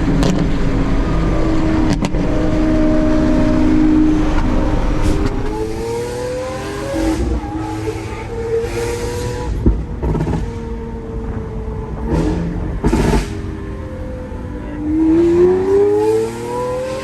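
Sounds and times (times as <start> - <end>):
exhaust crack: 0.0 - 17.0
sports car engine revving: 0.0 - 17.0.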